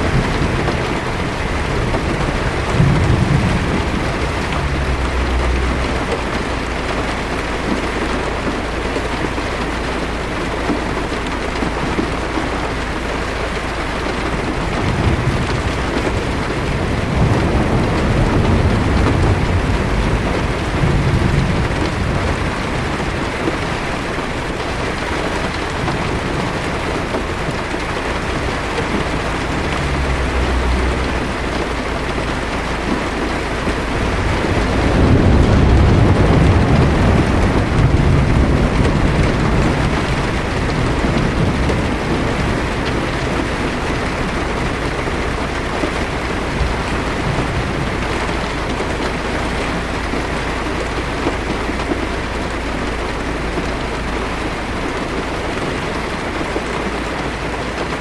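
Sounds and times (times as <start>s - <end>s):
heavy rain on a car roof: 0.0s - 58.0s
thunder rumble: 0.0s - 58.0s.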